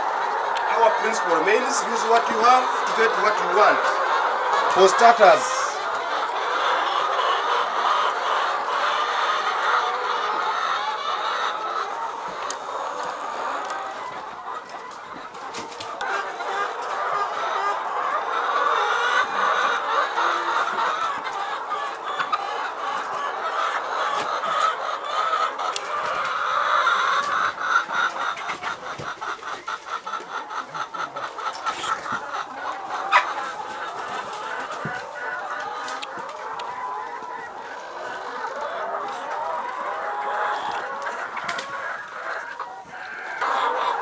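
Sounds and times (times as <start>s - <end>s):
hens clucking: 0.0s - 44.0s.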